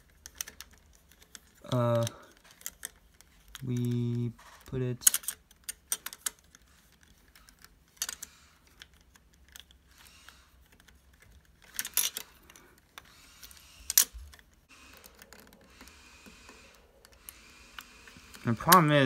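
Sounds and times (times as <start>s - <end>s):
plastic puzzle pieces clicking: 0.0s - 19.0s.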